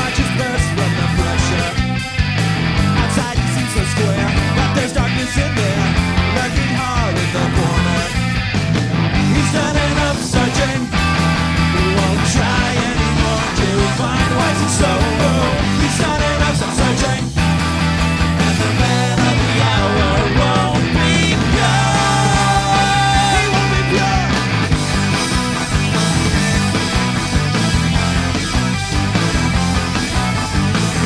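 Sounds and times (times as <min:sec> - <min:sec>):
bass guitar: 0:00.0 - 0:31.0
drum kit: 0:00.0 - 0:31.0
electric guitars: 0:00.0 - 0:31.0.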